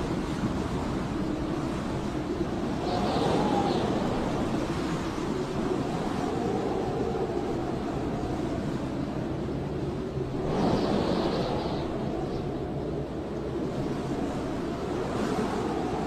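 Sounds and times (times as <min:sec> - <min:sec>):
blizzard wind howling: 0:00.0 - 0:16.0.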